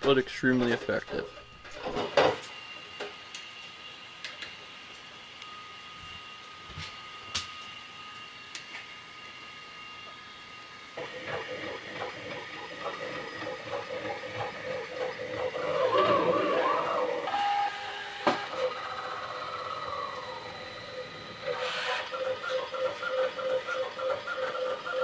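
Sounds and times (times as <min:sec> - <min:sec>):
printer stepper motors whining: 0:04.7 - 0:25.0.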